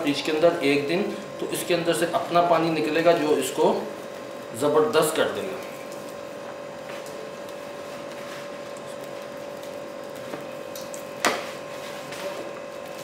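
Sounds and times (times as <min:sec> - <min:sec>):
electric hum: 0:00.0 - 0:13.0.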